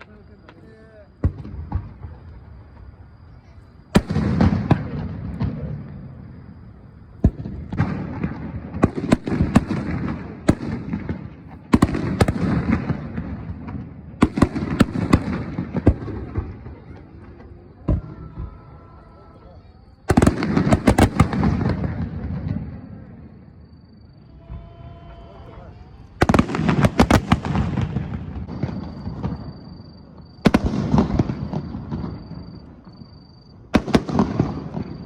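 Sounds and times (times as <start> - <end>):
fireworks bursting with rumble: 0.0 - 35.0.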